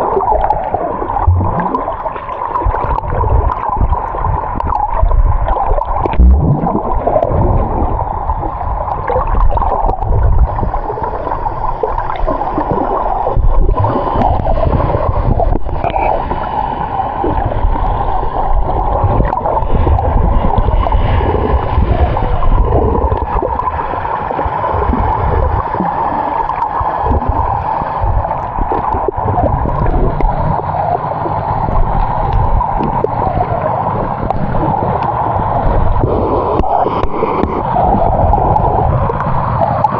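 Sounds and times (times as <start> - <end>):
steady low rumble: 0.0 - 39.9
water sloshing and gurgling: 0.0 - 39.9.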